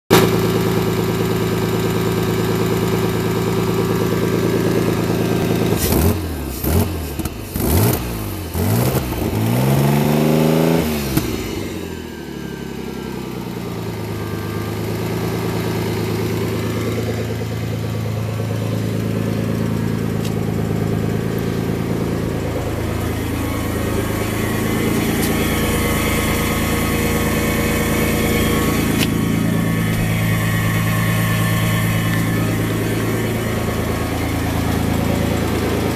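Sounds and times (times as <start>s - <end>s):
car engine idling and revving: 0.1s - 35.9s.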